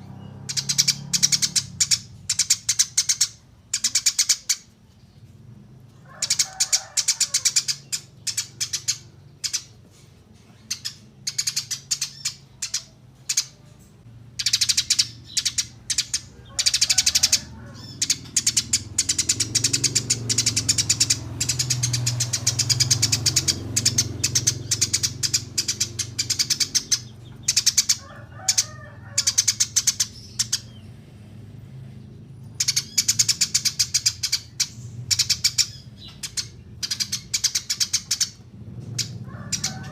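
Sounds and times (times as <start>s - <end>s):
songbird chirping trills: 0.0s - 39.9s.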